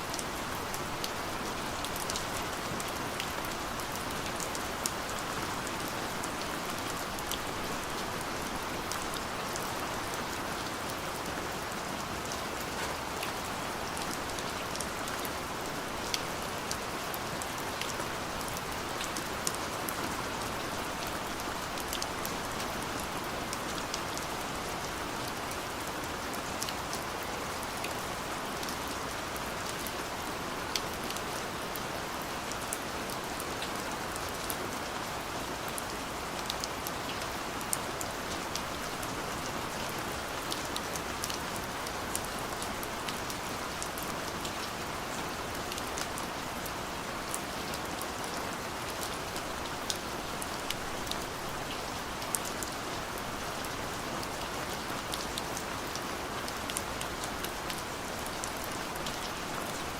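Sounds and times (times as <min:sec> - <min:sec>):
steady rain hiss: 0:00.0 - 0:59.9
raindrops ticking on a surface: 0:00.1 - 0:59.9.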